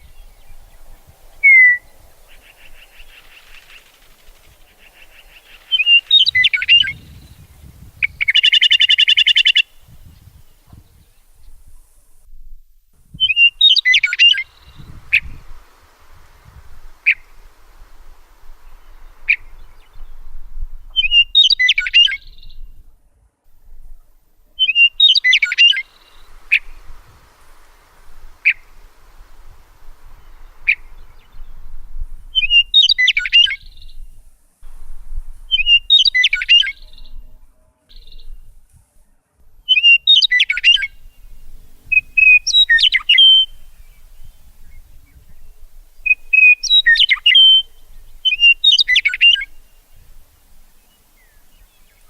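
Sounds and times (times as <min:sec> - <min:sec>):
songbirds chirping: 0:00.0 - 0:52.0.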